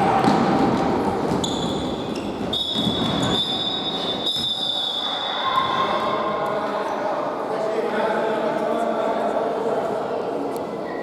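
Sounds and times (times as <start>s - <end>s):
echoing sports hall background: 0.0s - 11.0s.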